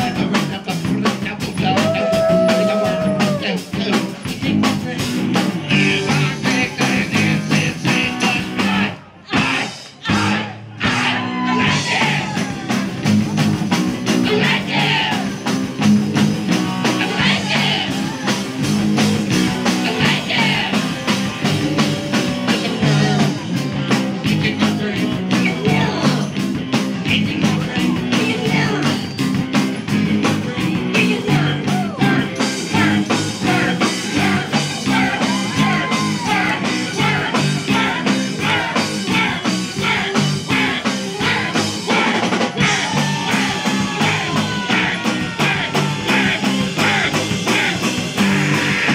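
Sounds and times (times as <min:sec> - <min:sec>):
person singing: 0:00.0 - 0:12.8, 0:19.7 - 0:26.4, 0:27.0 - 0:29.1, 0:30.1 - 0:48.9
rock band playing: 0:00.0 - 0:48.9.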